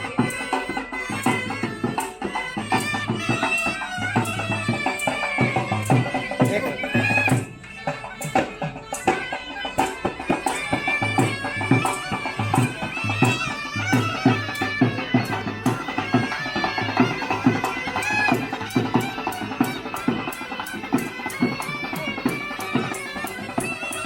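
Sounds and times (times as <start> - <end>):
hand drums beat: 0.0 - 24.0.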